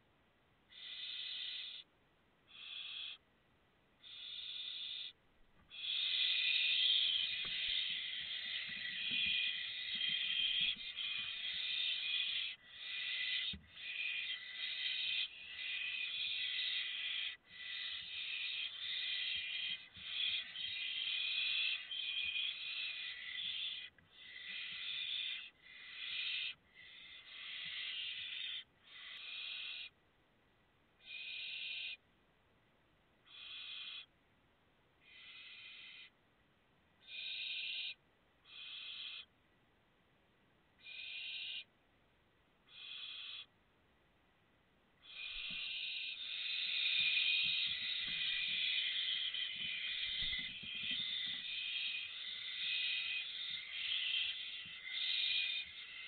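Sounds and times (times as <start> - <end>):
owl chicks hissing calls: 0.7 - 1.9, 2.5 - 3.2, 4.0 - 30.0, 31.0 - 32.0, 33.3 - 34.1, 35.0 - 36.1, 37.0 - 39.3, 40.8 - 41.7, 42.7 - 43.5, 45.0 - 56.0.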